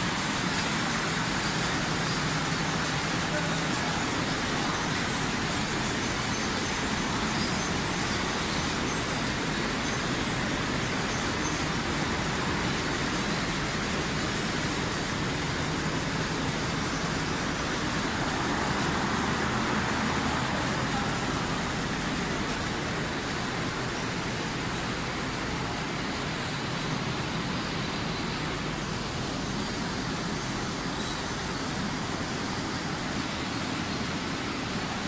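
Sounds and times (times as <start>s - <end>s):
conveyor machinery whirring: 0.0s - 35.0s.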